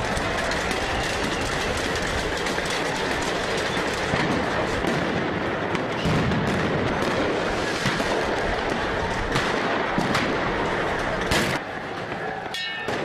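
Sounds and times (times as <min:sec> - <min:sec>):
loud steady din: 0:00.0 - 0:13.0.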